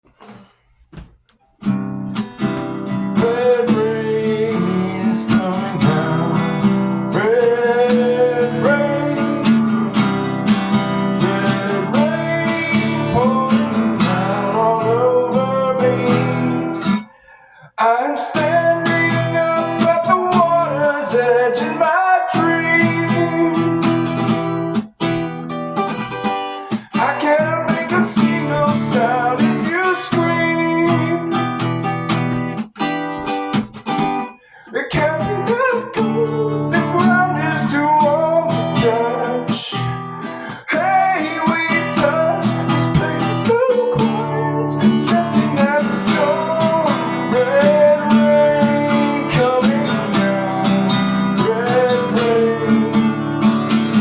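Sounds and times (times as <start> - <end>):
acoustic guitar strumming: 0.1 - 54.0.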